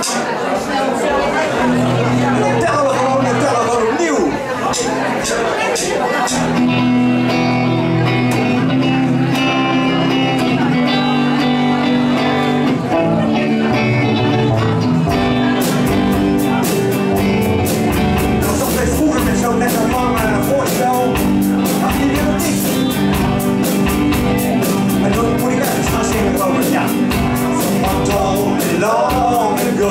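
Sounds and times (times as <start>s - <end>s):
guitar chords: 1.6s - 29.9s
keyboard chords: 1.6s - 29.9s
drums playing: 4.2s - 29.9s.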